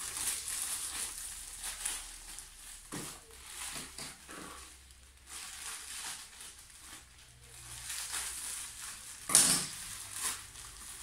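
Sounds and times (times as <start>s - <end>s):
plastic packets rustling: 0.0s - 11.0s
sharp plastic crackle: 0.0s - 11.0s.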